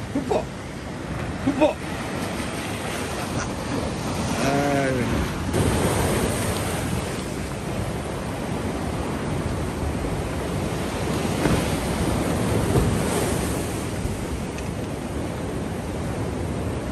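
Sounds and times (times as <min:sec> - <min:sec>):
surf washing over rocks: 0:00.0 - 0:16.9.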